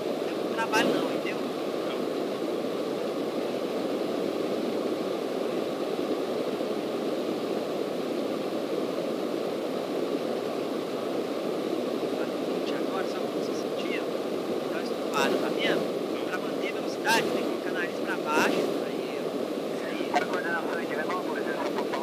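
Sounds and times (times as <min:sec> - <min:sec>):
light plane engine and propeller: 0:00.0 - 0:22.0.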